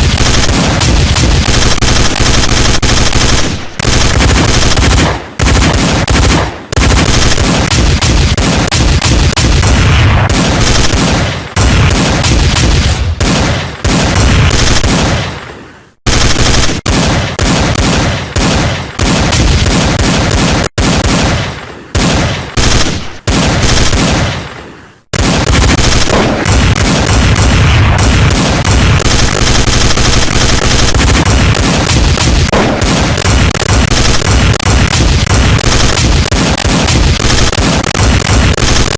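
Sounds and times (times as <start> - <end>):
rapid machine-gun shots: 0.0 - 15.3, 16.0 - 24.5, 25.1 - 38.9.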